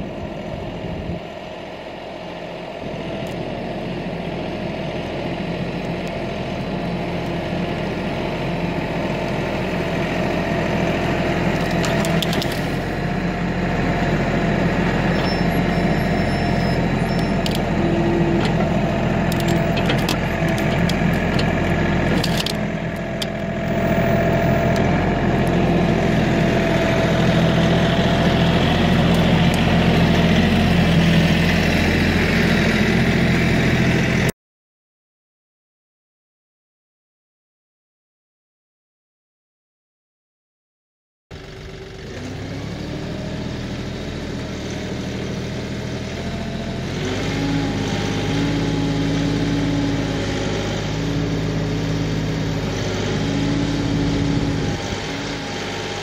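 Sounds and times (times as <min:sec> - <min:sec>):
tractor diesel engine under load: 0:00.0 - 0:34.3, 0:41.3 - 0:56.0.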